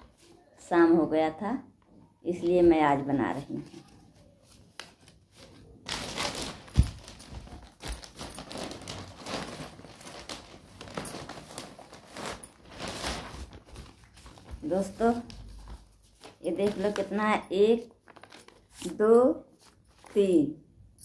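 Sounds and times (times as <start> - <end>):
cloth bundle rustling and crinkling: 2.4 - 20.4.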